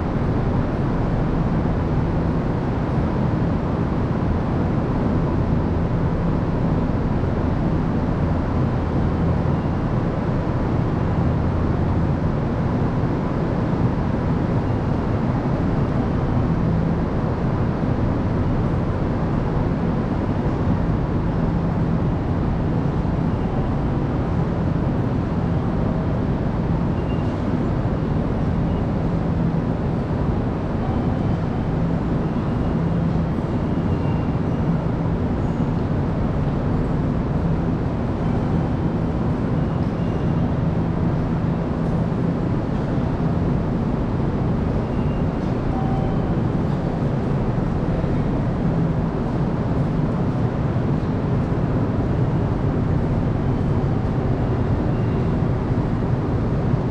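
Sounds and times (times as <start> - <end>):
low hum and rumble of train station: 0.0 - 56.9.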